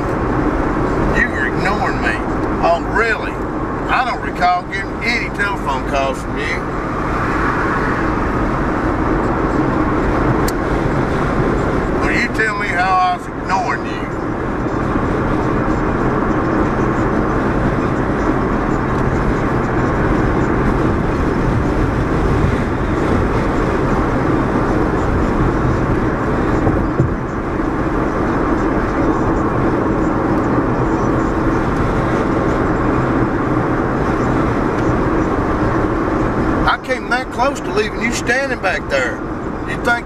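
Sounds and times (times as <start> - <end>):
car engine and road rumble: 0.0 - 40.0.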